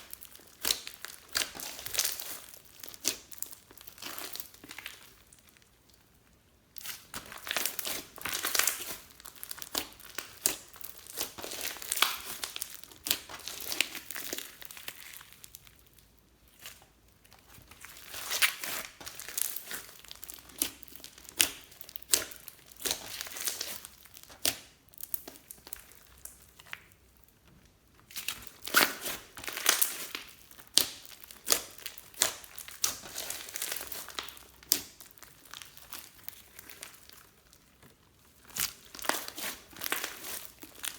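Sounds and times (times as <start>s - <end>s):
slime sticky crackling: 0.0s - 6.1s, 6.7s - 27.3s, 27.9s - 40.9s.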